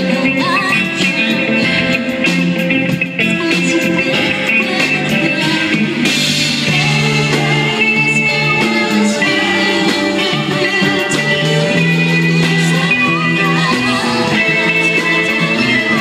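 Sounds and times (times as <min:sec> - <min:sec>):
person singing: 0:00.0 - 0:02.2, 0:03.2 - 0:06.1, 0:06.7 - 0:16.0
rock band with guitar: 0:00.0 - 0:16.0.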